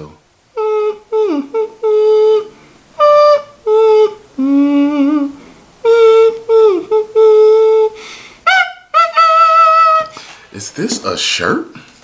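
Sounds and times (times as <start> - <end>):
man humming: 0.0 - 10.3.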